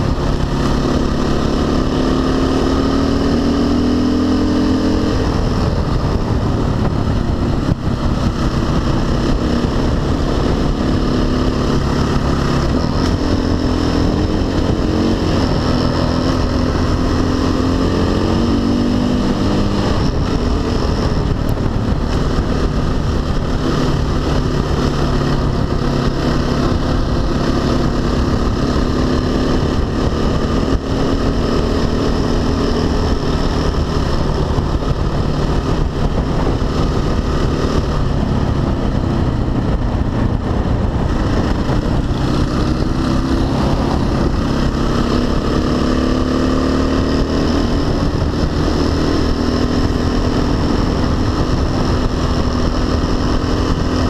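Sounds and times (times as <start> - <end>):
dirt bike engine revving: 0.0 - 38.7, 40.4 - 54.0
wind on microphone: 0.0 - 54.0.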